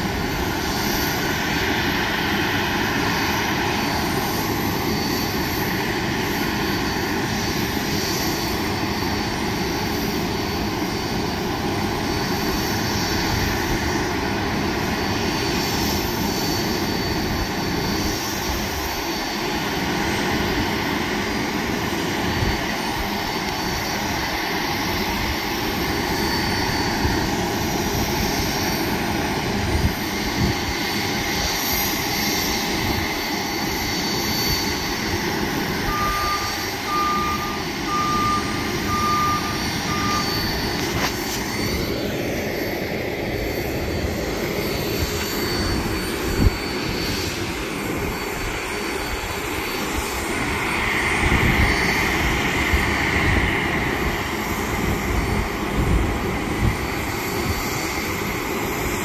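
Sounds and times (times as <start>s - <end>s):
jet aircraft noise: 0.0s - 59.0s.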